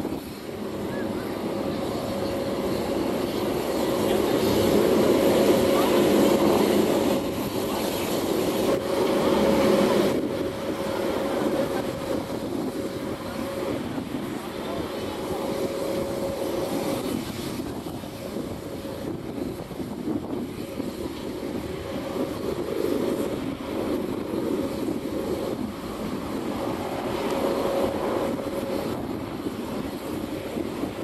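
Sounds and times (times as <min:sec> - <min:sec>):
faint turbine whine: 0:00.0 - 0:31.0
helicopter rotors rumbling: 0:00.0 - 0:31.0.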